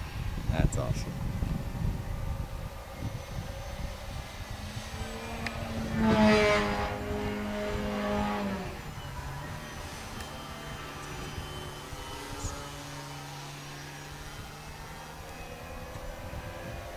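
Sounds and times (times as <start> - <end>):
model plane propeller buzzing: 0.0 - 16.9.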